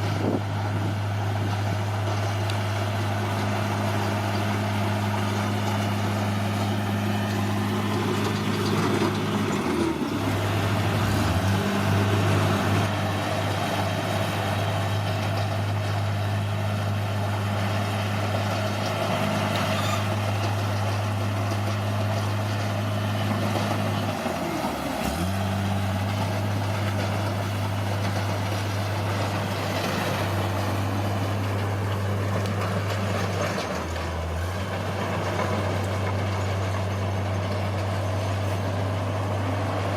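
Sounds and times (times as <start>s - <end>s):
bulldozer diesel engine: 0.0s - 39.9s
tracks clattering: 1.4s - 39.9s.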